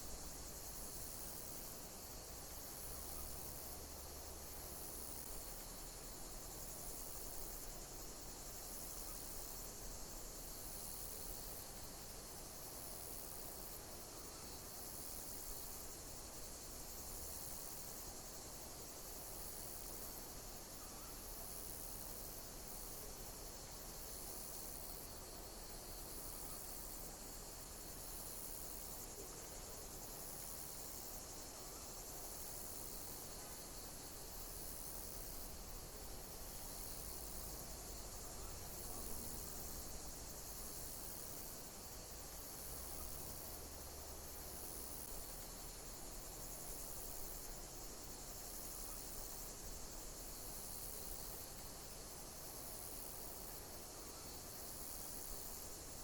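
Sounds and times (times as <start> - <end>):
insects chirping: 0.0 - 56.0
steady hiss: 0.0 - 56.0.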